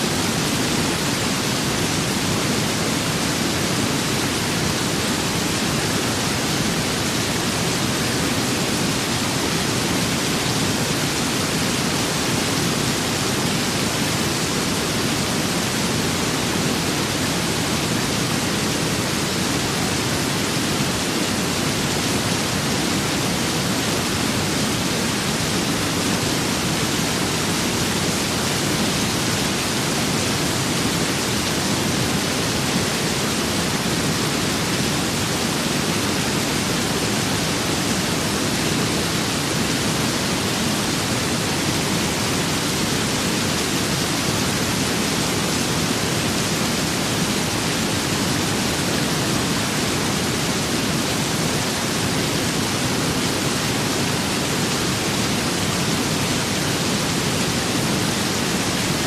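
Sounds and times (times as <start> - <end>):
rain: 0.0 - 59.0.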